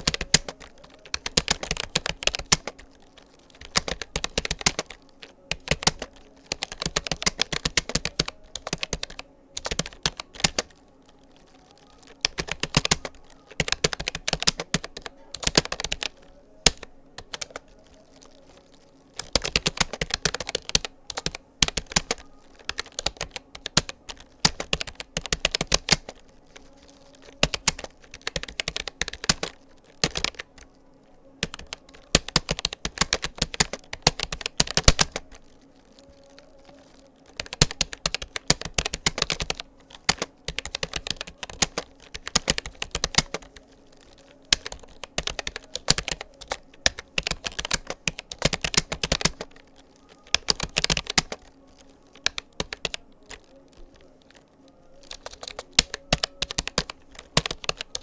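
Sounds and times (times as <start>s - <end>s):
keyboard typing clicks: 0.0s - 58.0s.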